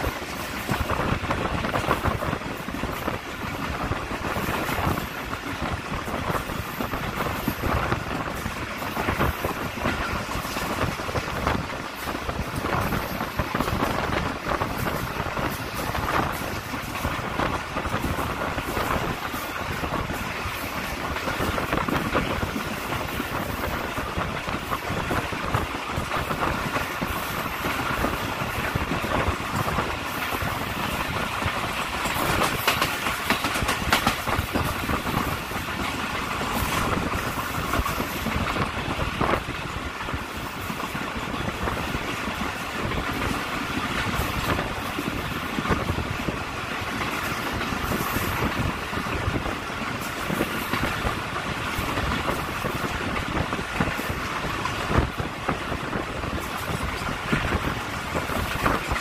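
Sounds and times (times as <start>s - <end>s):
train wheels rushing on rails: 0.0s - 59.0s
wheels clacking over rail joints: 0.0s - 59.0s.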